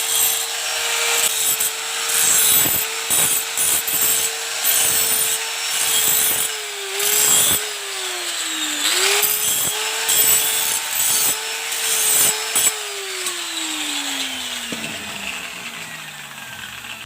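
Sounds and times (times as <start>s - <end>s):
electric power tool rasping: 0.0s - 17.0s.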